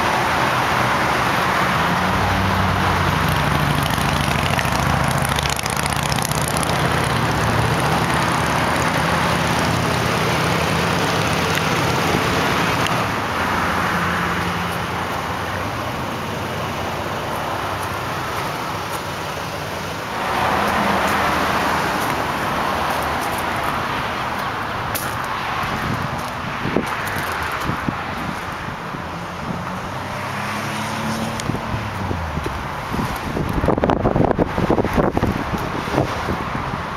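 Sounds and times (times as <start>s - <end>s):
highway traffic rushing: 0.0s - 36.9s.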